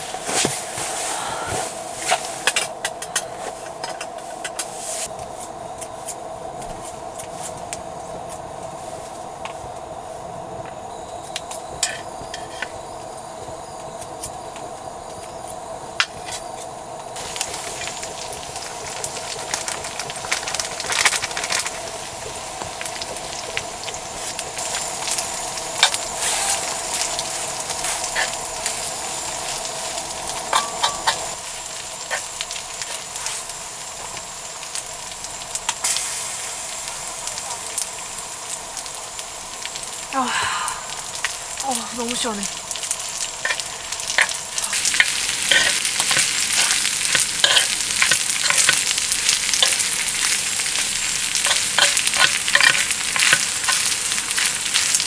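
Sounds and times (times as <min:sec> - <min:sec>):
food sizzling with crackles: 0:00.0 - 0:55.0.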